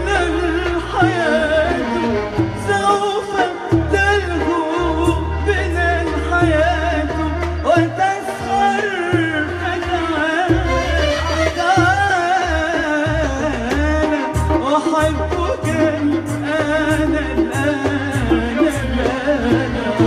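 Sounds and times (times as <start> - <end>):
instrumental accompaniment with bass: 0.0 - 20.0.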